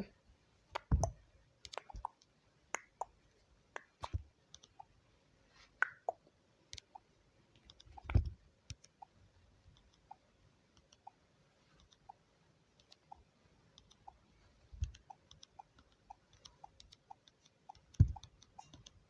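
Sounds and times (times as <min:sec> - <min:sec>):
faint clicks and taps: 0:00.7 - 0:05.0, 0:05.7 - 0:19.0.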